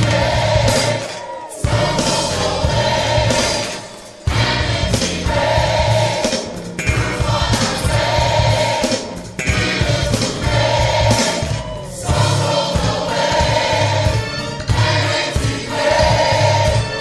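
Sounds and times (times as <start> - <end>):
choir singing held notes: 0.0 - 17.0
steady bass accompaniment: 0.0 - 17.0.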